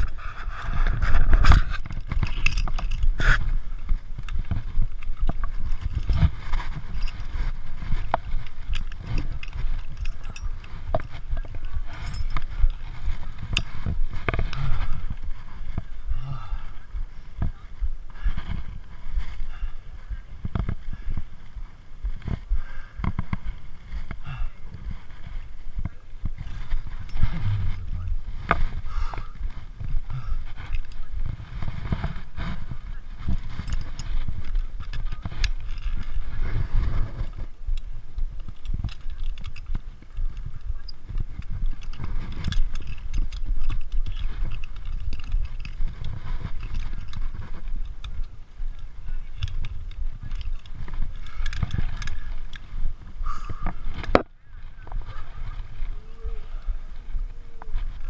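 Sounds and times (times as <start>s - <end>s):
camera rubbing against harness: 0.0s - 58.0s
harness gear clicks and rattles: 0.0s - 58.0s
wind rumble on microphone: 0.0s - 58.0s.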